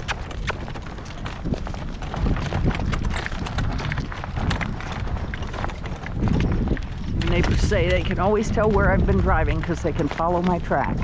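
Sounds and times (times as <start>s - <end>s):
horse hooves on soft soil: 0.0s - 11.0s
wind rumbling on microphone: 0.0s - 11.0s.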